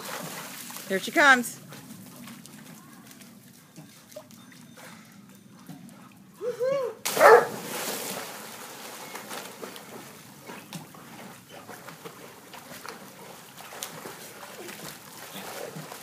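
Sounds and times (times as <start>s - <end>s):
dog splashing in pool water: 0.0s - 4.8s, 7.0s - 16.0s
water sloshing: 0.0s - 6.2s, 7.1s - 16.0s.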